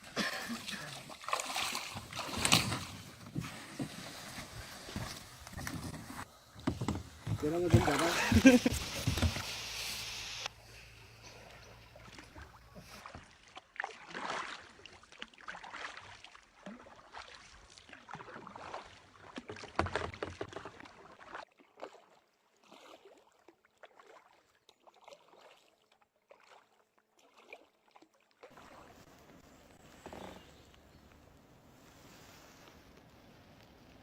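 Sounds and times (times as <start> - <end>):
kayak paddles splashing in water: 0.0 - 34.0.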